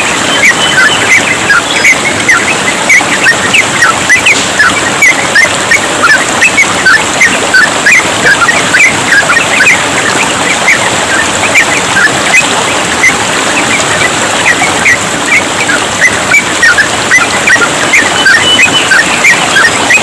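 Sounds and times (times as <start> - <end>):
birds chirping: 0.0 - 20.0
running water trickling: 0.0 - 20.0.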